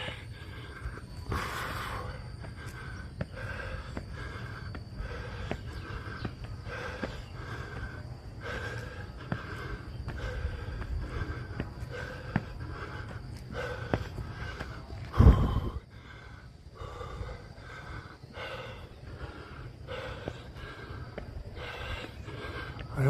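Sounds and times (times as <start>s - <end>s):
man breathing heavily: 0.0s - 23.0s.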